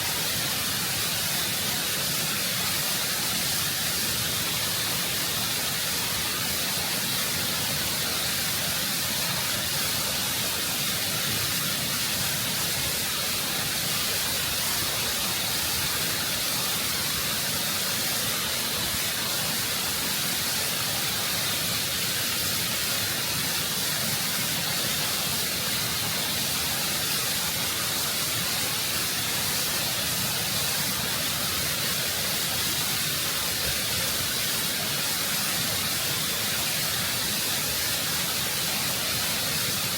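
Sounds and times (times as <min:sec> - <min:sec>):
waterfall rushing over rock: 0:00.0 - 0:39.9.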